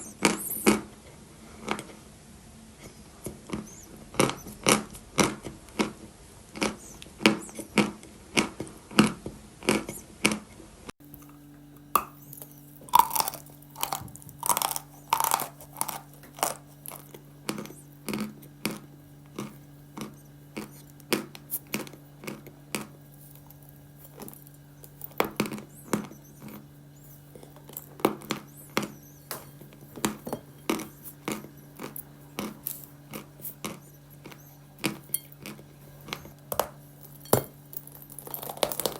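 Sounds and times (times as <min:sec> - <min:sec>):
faint low hum: 0:00.0 - 0:38.9
chewing crunchy chalk: 0:02.8 - 0:10.4, 0:11.1 - 0:38.9.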